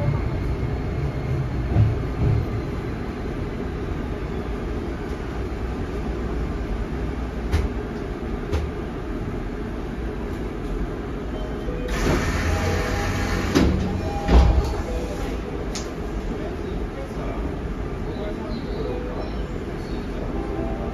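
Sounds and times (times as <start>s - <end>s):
subway train wheels rumbling on rail: 0.0s - 20.9s.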